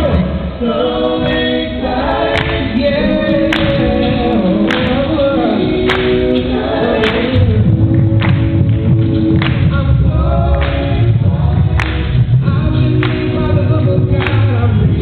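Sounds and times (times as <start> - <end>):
male group singing in harmony: 0.0 - 15.0.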